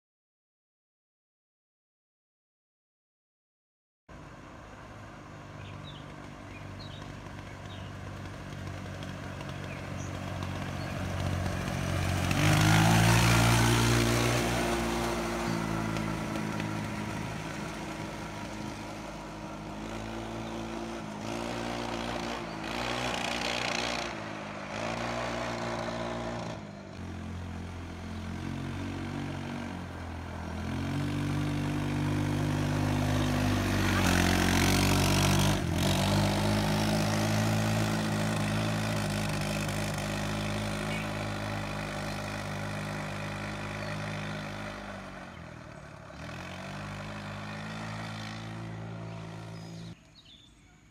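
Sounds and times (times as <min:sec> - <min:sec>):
go-kart engine passing: 0:04.2 - 0:50.5.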